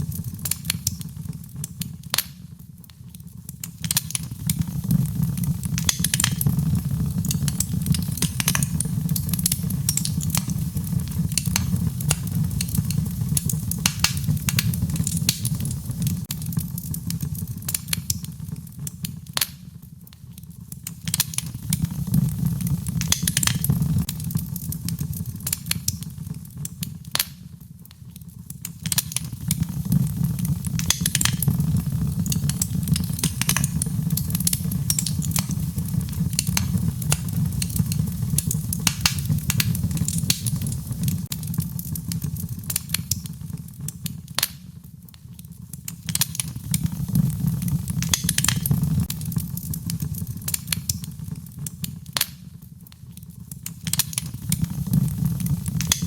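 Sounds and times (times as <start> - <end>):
low rumble of flame: 0.0 - 56.0
wood fire crackling and popping: 0.0 - 56.0.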